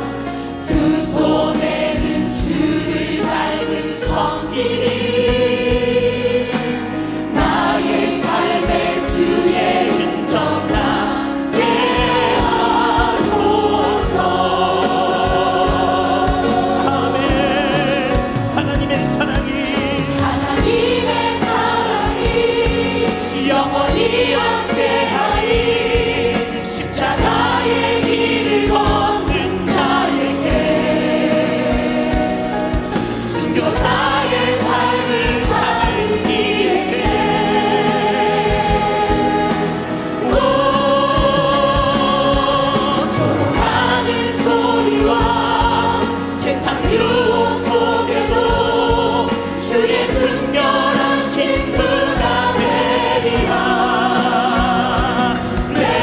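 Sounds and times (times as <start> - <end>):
band accompaniment: 0.0 - 56.0
group singing worship song: 0.0 - 56.0
steady drum beat: 0.0 - 56.0.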